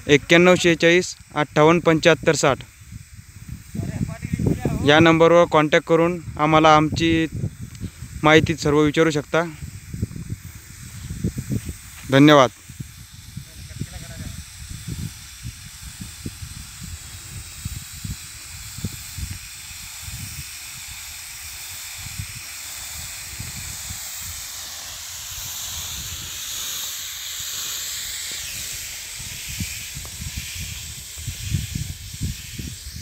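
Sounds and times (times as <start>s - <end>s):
sprayer nozzles hissing: 0.0s - 33.0s
wind buffeting microphone: 2.2s - 33.0s.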